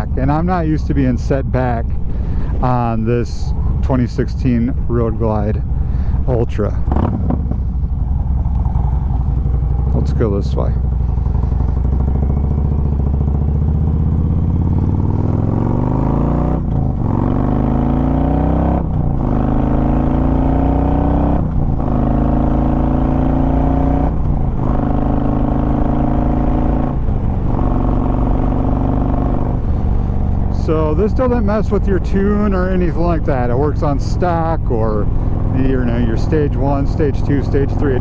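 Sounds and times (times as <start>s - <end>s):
motorcycle engine accelerating: 5.6s - 38.0s.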